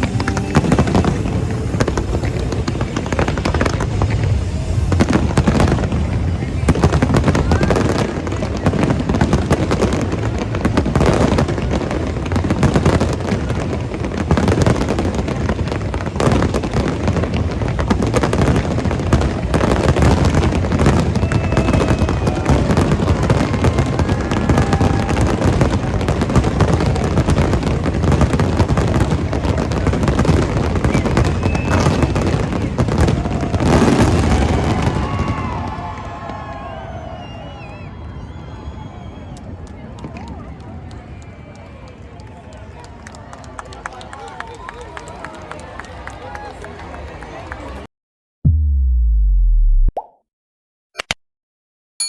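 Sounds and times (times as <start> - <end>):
fireworks bangs and crackle: 0.0 - 42.6.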